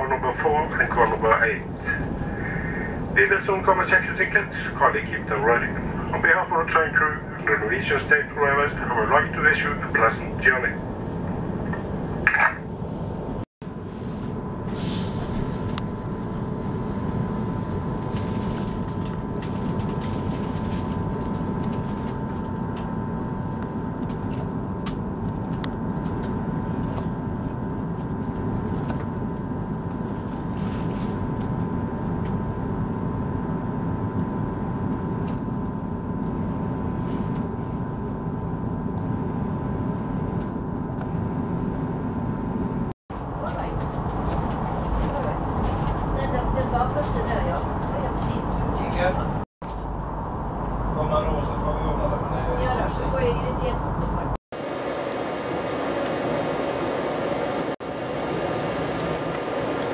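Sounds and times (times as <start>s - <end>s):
thin equipment whine: 0.0s - 59.9s
train interior hum: 0.0s - 59.9s.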